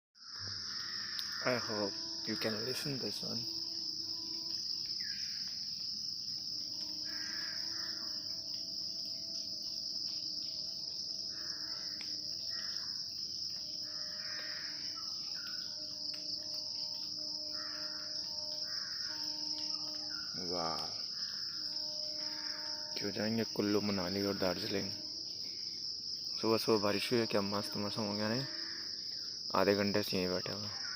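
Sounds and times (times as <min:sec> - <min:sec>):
insects chirring: 0:00.2 - 0:30.9.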